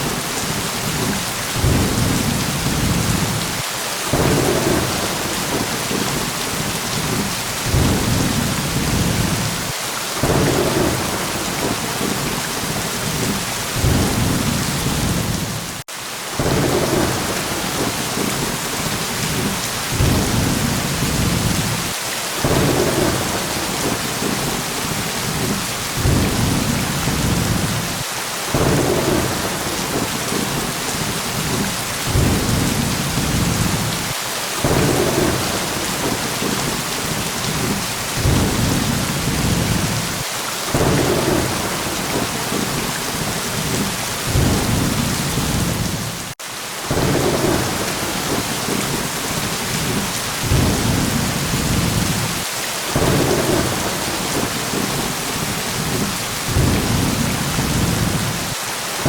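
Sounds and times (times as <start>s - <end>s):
low thunder rumbles: 0.0s - 15.8s, 16.4s - 52.4s, 53.0s - 58.6s
heavy rain hissing: 0.0s - 59.0s.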